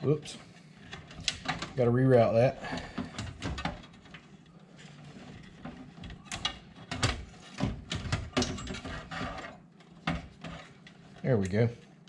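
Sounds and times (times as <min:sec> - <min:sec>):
cables rustling: 0:00.0 - 0:12.0.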